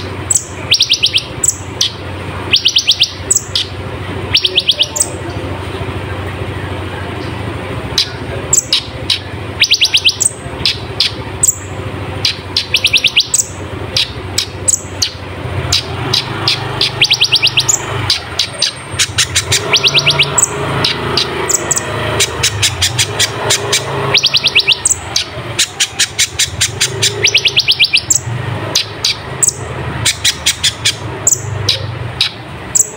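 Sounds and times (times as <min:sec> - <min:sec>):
sunbird singing rapid trills: 0:00.0 - 0:32.9.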